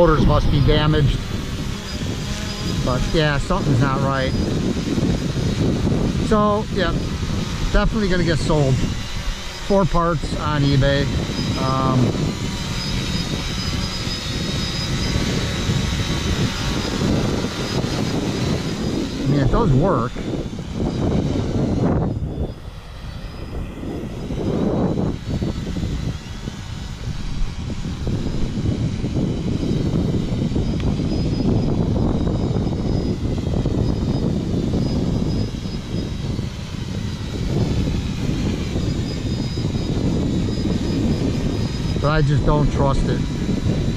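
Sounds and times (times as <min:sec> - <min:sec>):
drone propellers whining: 0:00.0 - 0:43.9
heavy low rumble: 0:00.0 - 0:43.9
high-pitched squeal: 0:00.0 - 0:43.9
wind buffeting microphone: 0:00.0 - 0:43.9.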